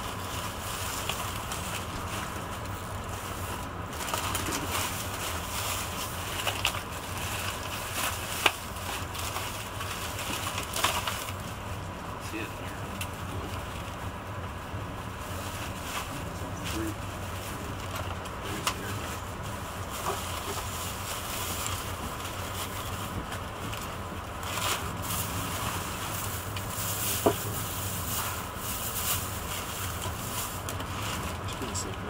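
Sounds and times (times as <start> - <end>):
train rumbling from inside cabin: 0.0 - 32.0.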